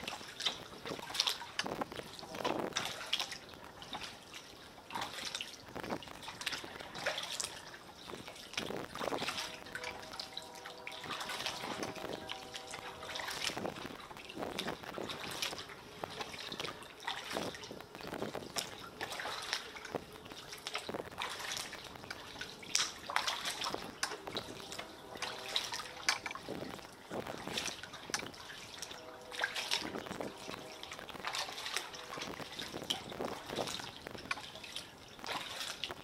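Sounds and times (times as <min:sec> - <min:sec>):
paddle splashing: 0:00.0 - 0:36.0
waves slapping concrete pilings: 0:00.0 - 0:36.0.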